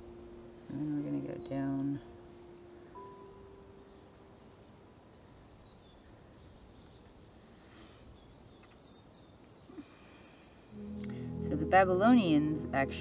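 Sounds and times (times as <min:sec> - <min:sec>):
faint bird chirps: 0:00.0 - 0:11.4.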